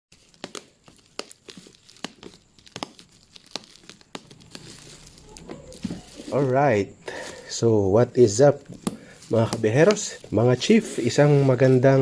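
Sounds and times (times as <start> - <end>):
crinkling and crackling: 0.1 - 7.6, 8.2 - 12.0.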